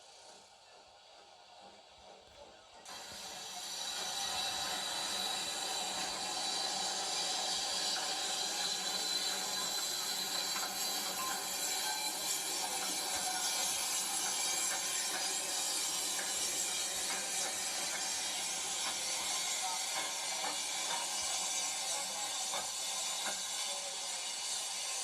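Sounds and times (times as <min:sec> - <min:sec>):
steam hissing: 0:00.0 - 0:25.0.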